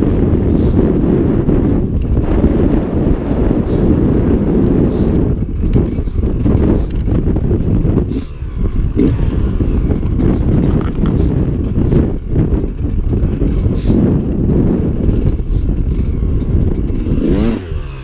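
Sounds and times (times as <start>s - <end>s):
dirt bike engine running: 0.0s - 18.0s
wind buffeting microphone: 0.0s - 18.0s.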